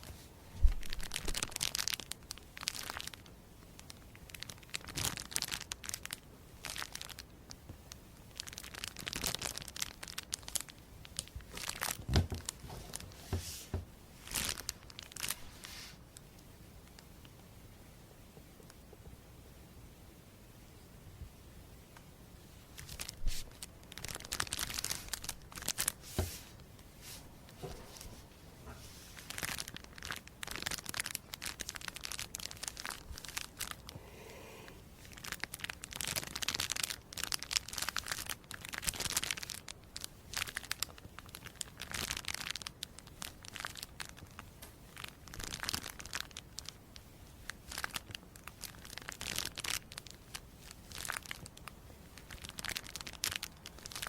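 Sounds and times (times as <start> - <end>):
crinkling and tearing: 0.0 - 7.2, 8.4 - 16.0, 22.8 - 33.9, 35.0 - 44.4, 45.0 - 46.8, 47.4 - 54.0.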